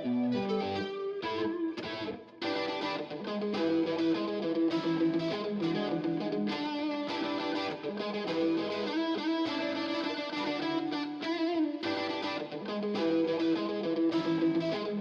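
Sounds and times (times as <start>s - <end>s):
electric guitar music with distortion: 0.0s - 15.0s.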